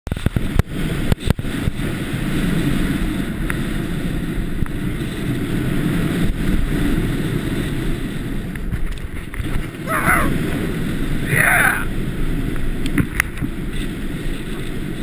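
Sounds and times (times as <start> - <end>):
snowboard scraping over snow: 0.1 - 15.0
wind rushing over microphone: 0.1 - 15.0.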